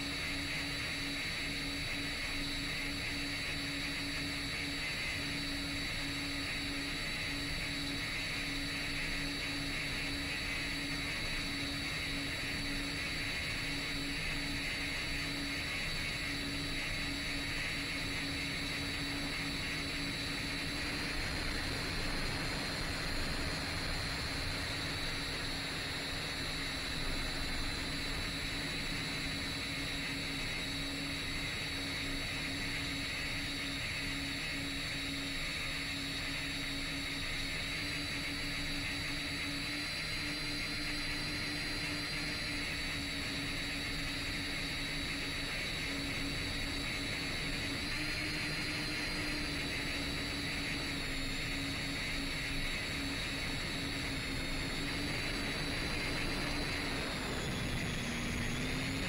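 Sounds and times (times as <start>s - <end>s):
quadcopter motors whining: 0.0s - 59.0s.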